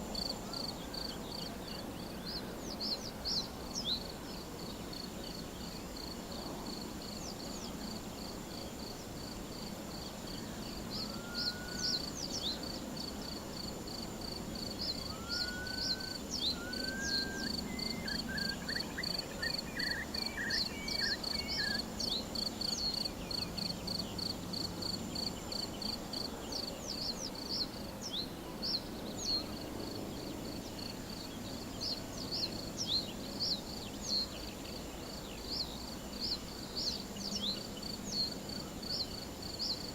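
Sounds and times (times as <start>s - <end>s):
cricket chirping: 0.0s - 39.9s
meadow ambience hiss: 0.0s - 39.9s.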